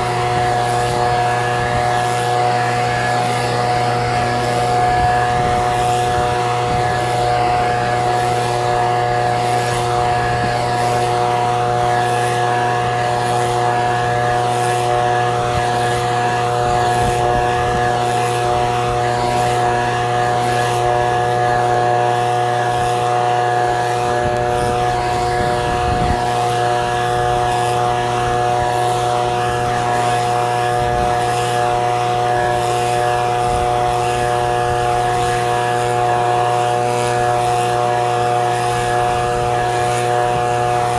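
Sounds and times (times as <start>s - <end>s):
leaf blower engine running: 0.0s - 40.9s.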